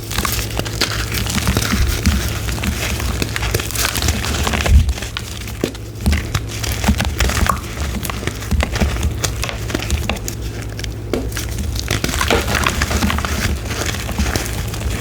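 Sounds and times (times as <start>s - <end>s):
chalk being crushed: 0.0s - 15.0s.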